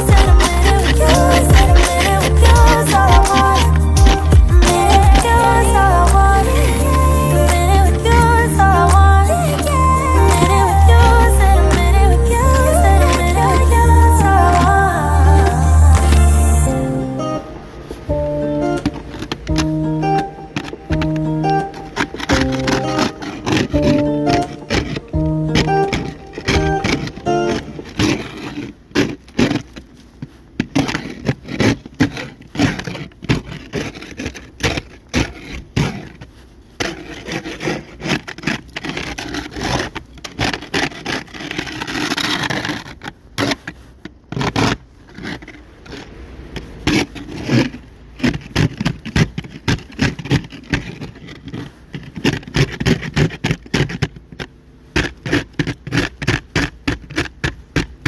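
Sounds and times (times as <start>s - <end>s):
ice scraper scraping ice: 0.0s - 58.0s.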